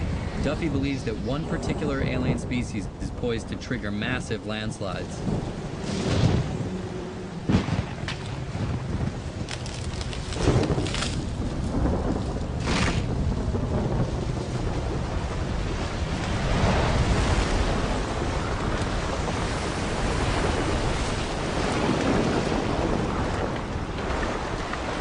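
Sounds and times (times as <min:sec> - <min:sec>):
heavy rain: 0:00.0 - 0:25.0
thunder rumbling and cracking: 0:00.0 - 0:25.0.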